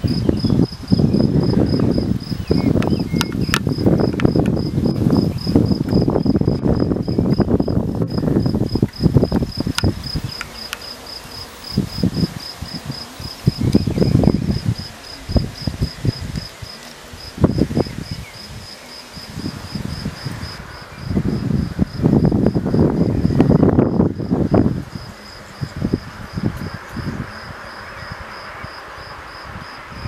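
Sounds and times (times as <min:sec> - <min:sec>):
cricket chirping: 0:00.0 - 0:30.0
wind buffeting microphone: 0:00.0 - 0:30.0.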